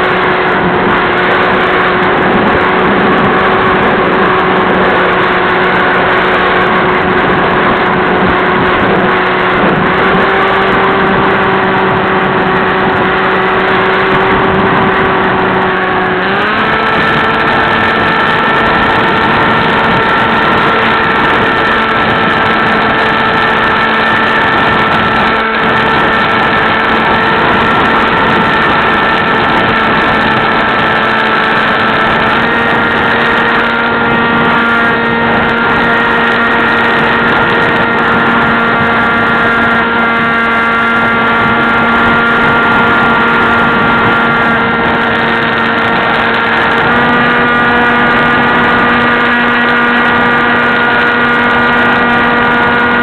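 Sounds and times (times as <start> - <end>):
electric motor and propeller whine: 0.0 - 53.0
rush of air: 0.0 - 53.0.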